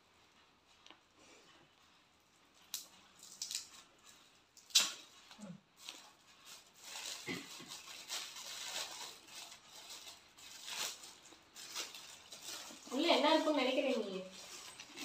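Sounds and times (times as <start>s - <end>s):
gift wrapping rustling and crackling: 0.0s - 15.0s.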